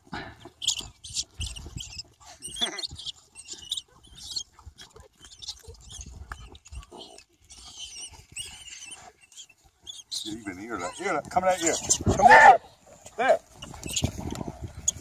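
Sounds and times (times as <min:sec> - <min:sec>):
rats squeaking: 0:00.4 - 0:12.2, 0:13.6 - 0:15.0.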